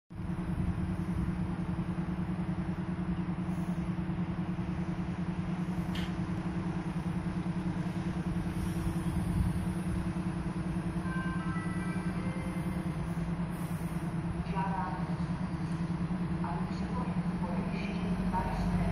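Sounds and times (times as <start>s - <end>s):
diesel railcar engine idling: 0.1s - 18.9s.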